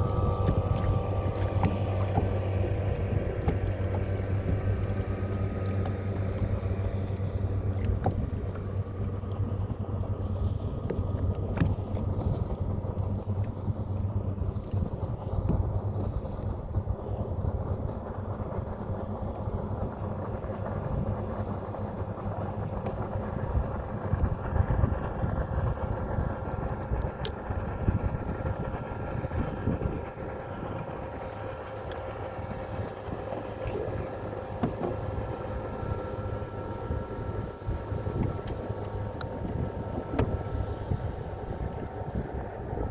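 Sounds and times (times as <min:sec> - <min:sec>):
boat motor running: 0:00.0 - 0:42.9
wind on microphone: 0:00.0 - 0:42.9.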